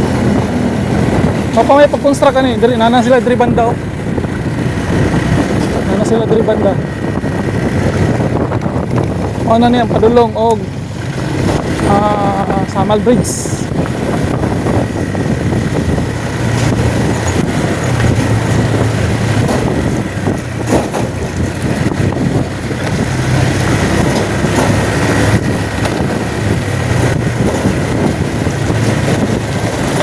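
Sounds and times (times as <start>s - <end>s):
road and wind noise: 0.0s - 30.0s
vehicle engine drone: 0.0s - 30.0s.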